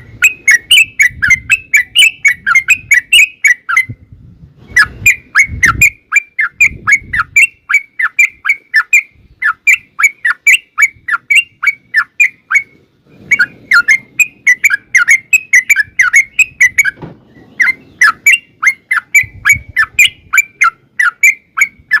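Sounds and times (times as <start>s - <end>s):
bird singing chirping notes: 0.0s - 22.0s.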